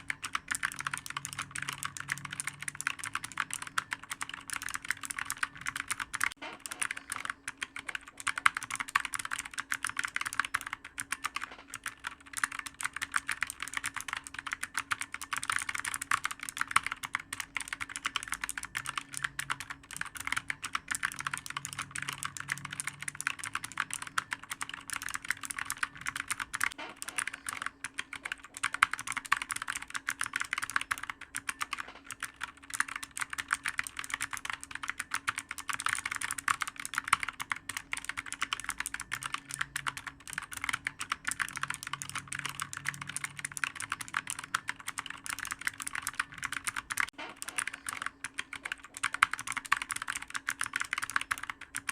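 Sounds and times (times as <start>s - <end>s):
fast typing on clicky keyboard: 0.0s - 51.9s.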